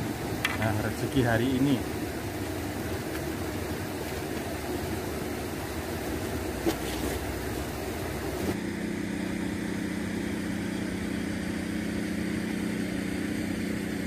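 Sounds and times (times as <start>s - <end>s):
outdoor background noise: 0.0s - 14.0s
steady mechanical hum: 0.0s - 14.0s.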